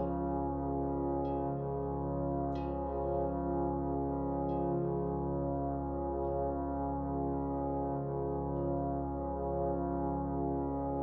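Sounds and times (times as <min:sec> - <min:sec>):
slow ambient music: 0:00.0 - 0:11.0.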